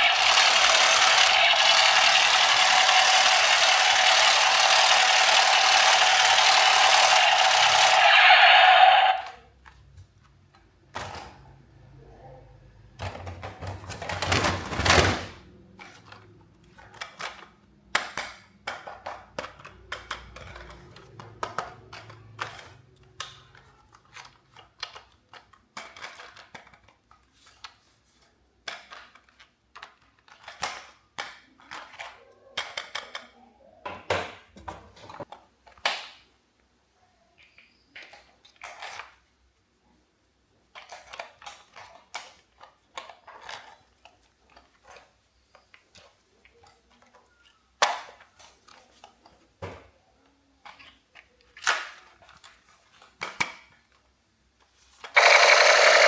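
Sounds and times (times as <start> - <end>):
plastic toys clicking and knocking: 0.0 - 11.4, 12.9 - 36.3, 37.4 - 39.5, 40.6 - 56.0.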